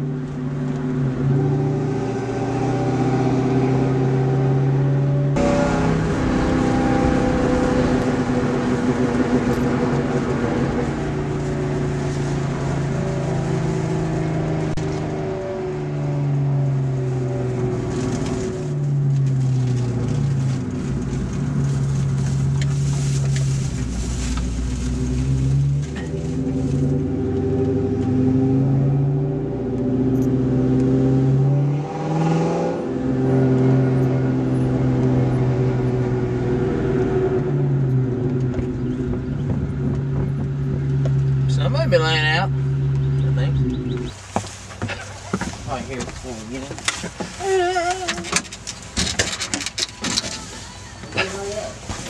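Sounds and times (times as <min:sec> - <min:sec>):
car engine hum: 0:00.0 - 0:52.0
road and wind noise: 0:00.0 - 0:52.0.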